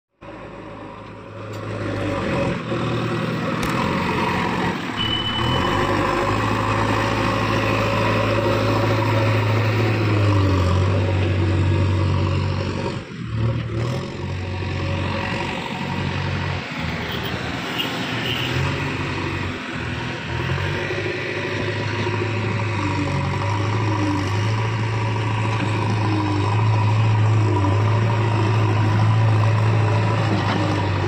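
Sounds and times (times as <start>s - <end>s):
diesel engine under load: 0.2s - 31.0s.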